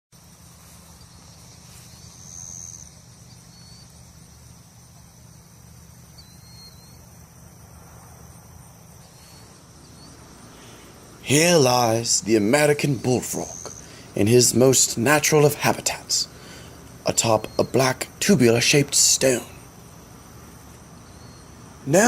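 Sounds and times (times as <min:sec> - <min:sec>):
insects trilling: 0:00.2 - 0:22.0.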